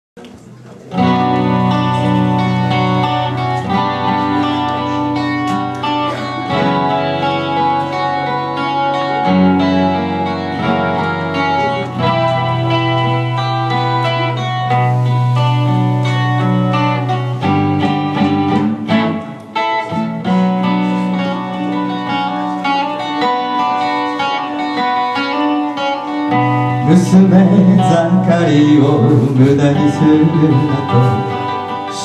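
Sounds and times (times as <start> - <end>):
plucked guitar melody: 0.8 - 32.0
sustained backing notes: 1.0 - 32.0.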